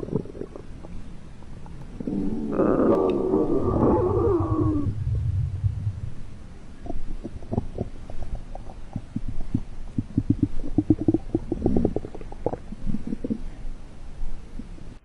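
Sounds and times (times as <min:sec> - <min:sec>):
stomach growling: 0:00.0 - 0:01.0, 0:02.0 - 0:06.2, 0:06.8 - 0:13.6.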